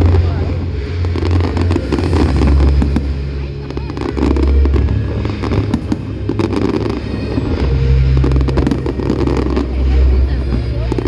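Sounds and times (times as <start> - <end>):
fireworks cracking and popping: 0.0 - 11.0
low rumble of fireworks booms: 0.0 - 11.0.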